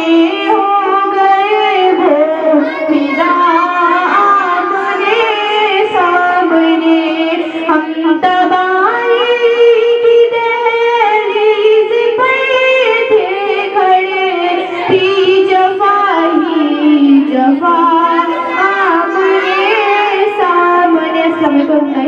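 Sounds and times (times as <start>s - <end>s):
woman singing devotional song: 0.0s - 22.0s.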